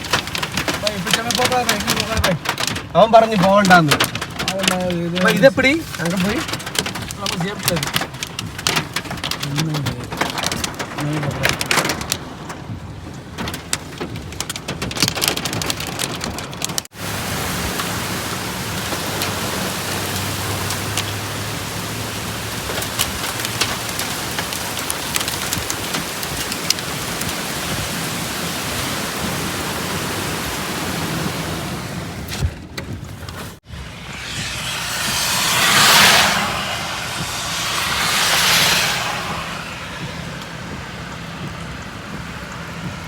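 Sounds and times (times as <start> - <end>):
heavy rain pouring: 0.0 - 32.4, 33.5 - 43.0.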